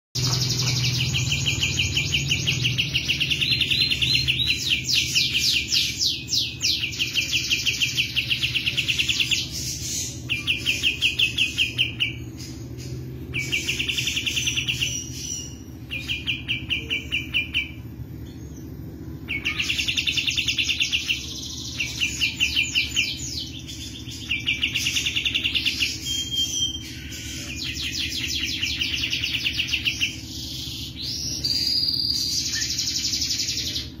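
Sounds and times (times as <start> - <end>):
bird singing fast trills: 0.2 - 34.0.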